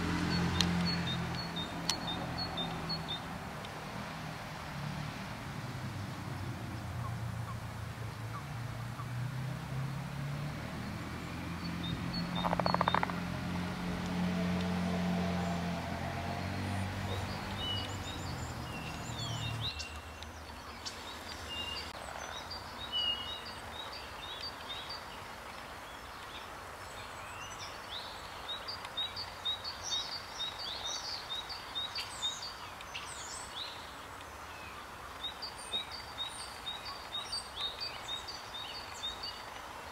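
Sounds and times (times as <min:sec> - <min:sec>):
birds chirping: 0:00.0 - 0:04.0, 0:10.5 - 0:13.8, 0:15.2 - 0:39.9.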